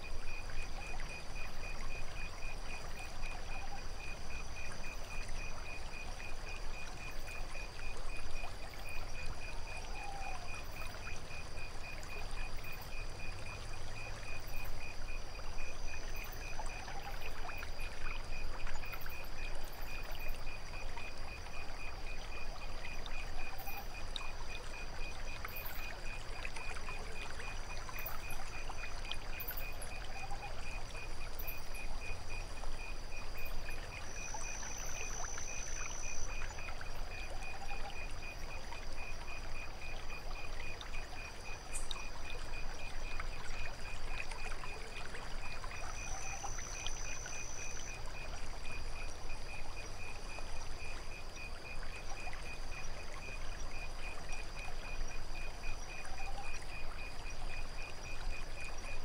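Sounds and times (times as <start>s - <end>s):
crickets chirping: 0.0s - 59.0s
trickling water: 0.0s - 59.0s.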